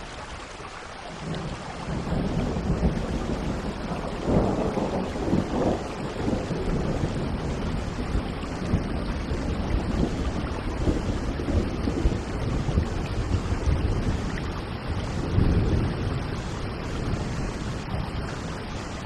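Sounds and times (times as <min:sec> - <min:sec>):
heavy rain: 0:00.0 - 0:19.0
low rumble of thunder: 0:01.1 - 0:19.0.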